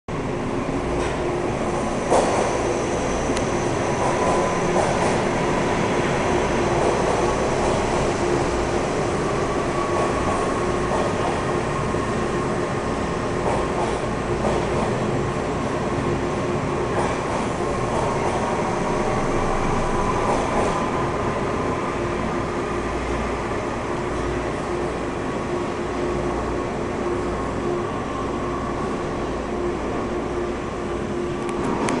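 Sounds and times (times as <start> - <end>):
subway train wheels rumbling on rail: 0.1 - 32.0.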